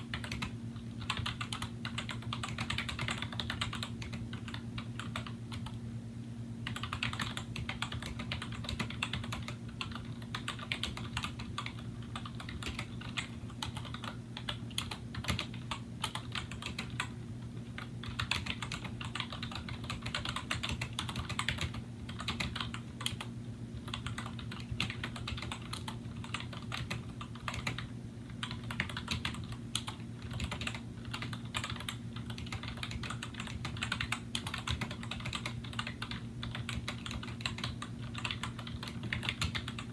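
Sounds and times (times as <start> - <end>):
fast keyboard typing: 0.0 - 5.8, 6.6 - 39.9.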